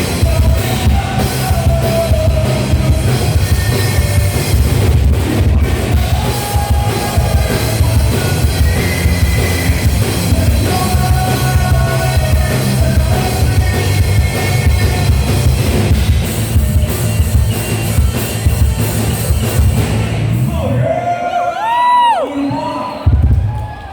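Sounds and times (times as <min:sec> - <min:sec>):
live rock band playing: 0:00.0 - 0:20.8
drum kit: 0:00.0 - 0:21.0.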